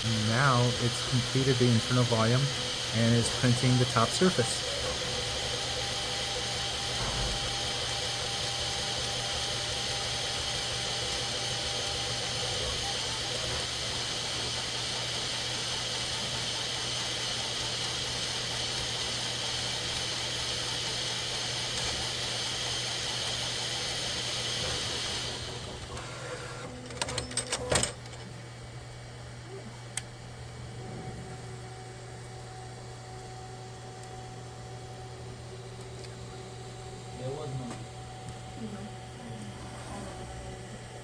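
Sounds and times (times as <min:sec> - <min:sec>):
three d printer running: 0:00.0 - 0:41.0.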